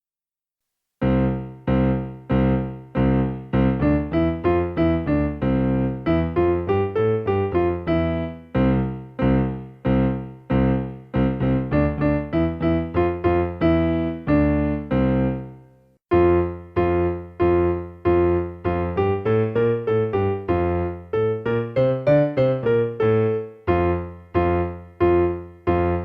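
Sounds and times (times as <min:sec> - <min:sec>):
electronic keyboard piano melody: 0:01.0 - 0:26.0.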